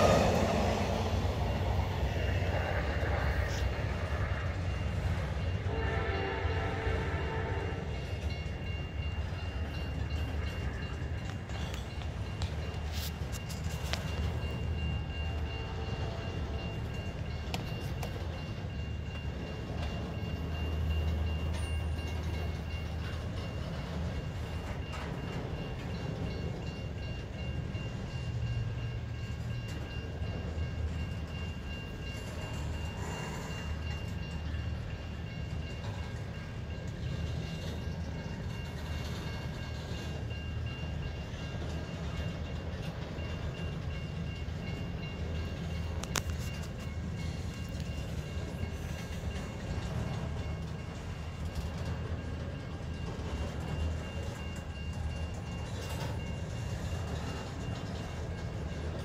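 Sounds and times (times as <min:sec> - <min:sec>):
train wheels rumbling on rail: 0:00.0 - 0:59.0
wheels clicking over rail joints: 0:08.0 - 0:59.0.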